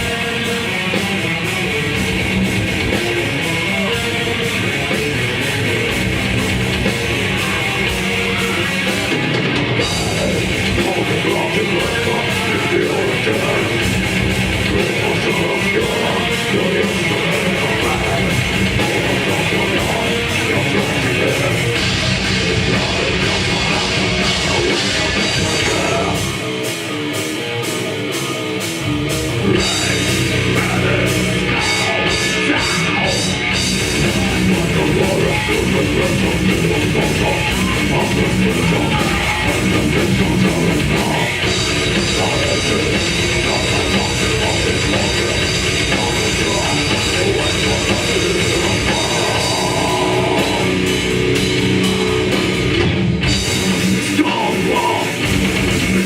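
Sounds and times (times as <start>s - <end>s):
distorted electric guitars: 0.0s - 56.0s
fast drums: 0.0s - 56.0s.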